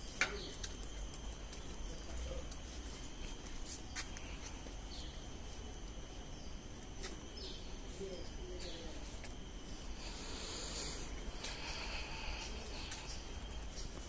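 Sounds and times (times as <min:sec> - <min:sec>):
faint high insect drone: 0:00.0 - 0:14.0.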